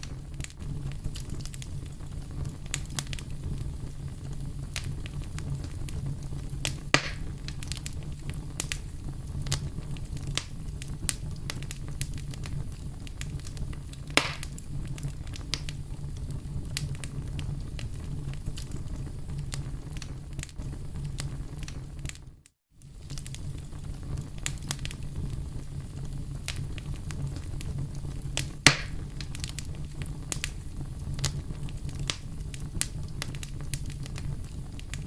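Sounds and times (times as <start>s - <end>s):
campfire crackling and popping: 0.0s - 35.0s
low rumble of flames: 0.0s - 35.0s.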